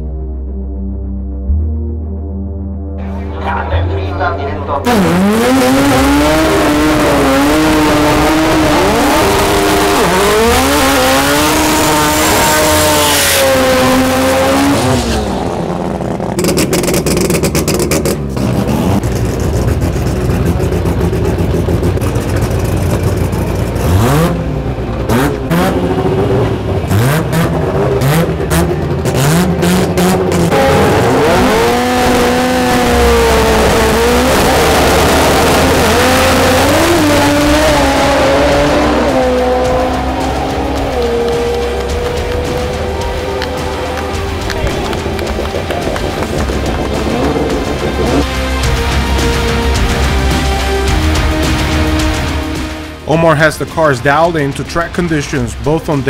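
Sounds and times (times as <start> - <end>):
exhaust crackles: 3.0 - 50.4
car engine revving: 3.0 - 56.0.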